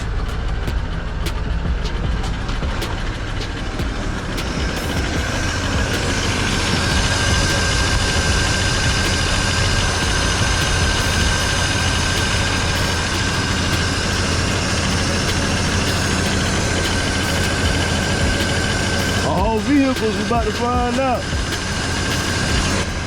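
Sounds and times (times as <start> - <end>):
high-pitched whine: 0.0 - 23.0
pickup engine running: 0.0 - 23.0.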